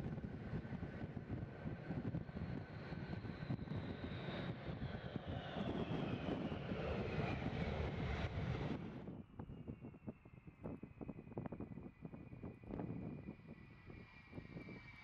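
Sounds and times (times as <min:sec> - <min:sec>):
jet engines passing close: 0:00.0 - 0:15.0.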